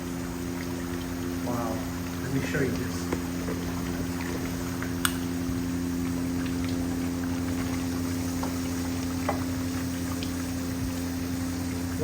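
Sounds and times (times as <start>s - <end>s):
meat sizzling and bubbling in pot: 0.0s - 12.0s.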